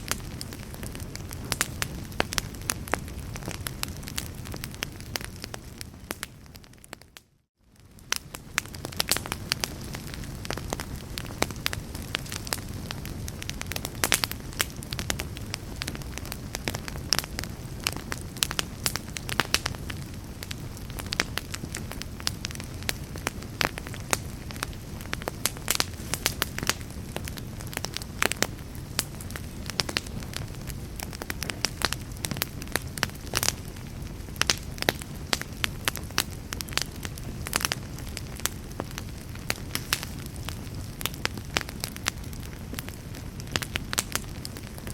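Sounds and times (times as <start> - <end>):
log fire crackling and popping: 0.0 - 44.9
low fire rumble: 0.0 - 44.9.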